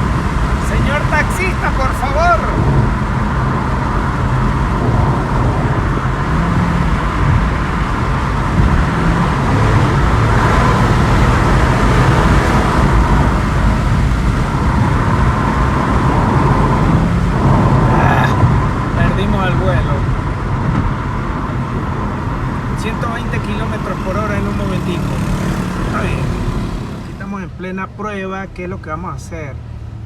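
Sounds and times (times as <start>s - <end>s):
car engine pulling hard: 0.0s - 30.0s
road and tyre noise: 0.0s - 30.0s.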